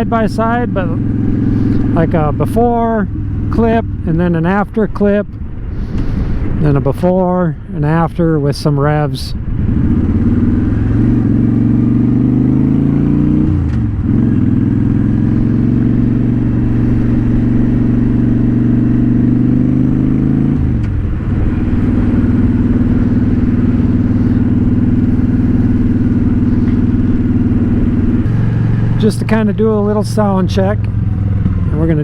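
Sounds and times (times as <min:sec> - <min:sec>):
motorcycle engine running: 0:00.0 - 0:07.1, 0:09.4 - 0:32.0.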